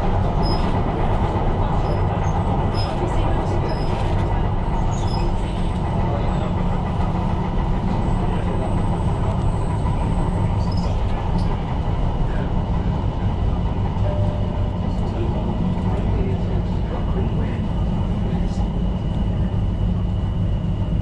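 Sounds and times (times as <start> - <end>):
train wheels and motors rumbling: 0.0 - 21.0.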